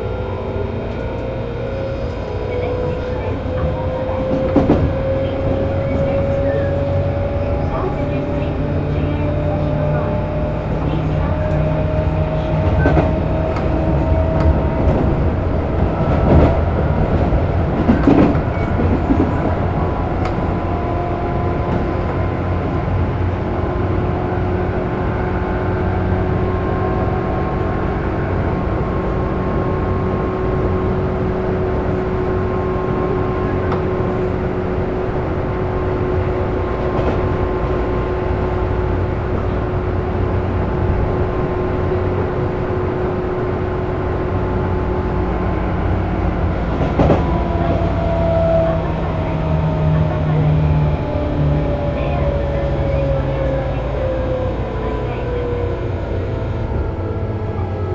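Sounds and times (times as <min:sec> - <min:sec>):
wheels rumbling on rail: 0:00.0 - 0:57.9.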